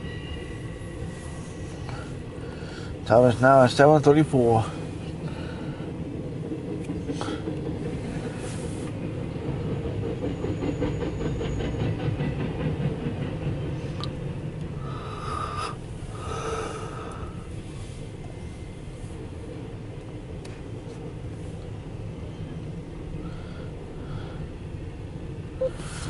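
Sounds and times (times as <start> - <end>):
freight train rumbling on rails: 0.0 - 26.0.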